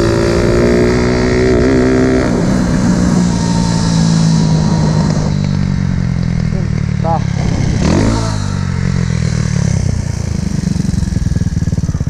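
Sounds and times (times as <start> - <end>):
motorcycle engine revving: 0.0 - 12.0
wind rush: 0.5 - 10.5.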